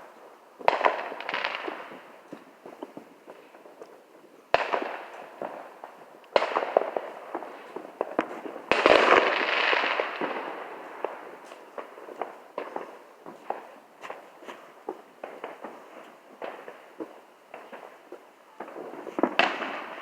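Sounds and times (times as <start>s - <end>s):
firework bangs: 0.0s - 3.8s, 4.5s - 20.0s
firework crackling: 0.0s - 20.0s.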